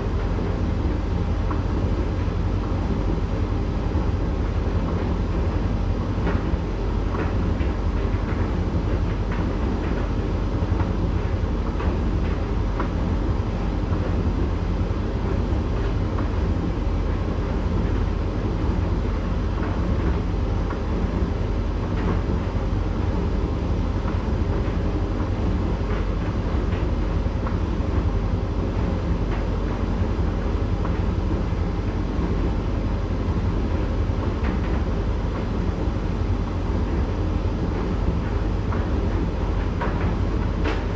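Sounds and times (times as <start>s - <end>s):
faint ticks in dryer drum: 0.0s - 40.9s
tumble dryer rumbling: 0.0s - 40.9s.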